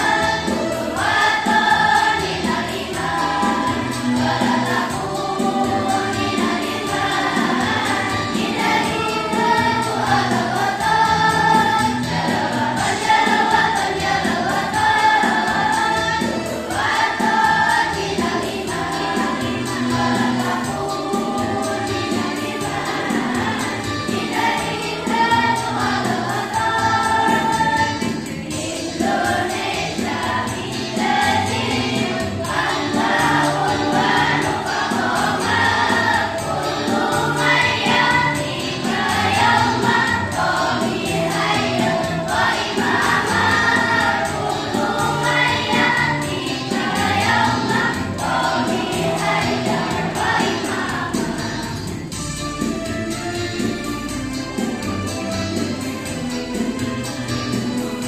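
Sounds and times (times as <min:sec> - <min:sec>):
girls choir singing: 0:00.0 - 0:52.2
low instrumental accompaniment: 0:00.0 - 0:58.0.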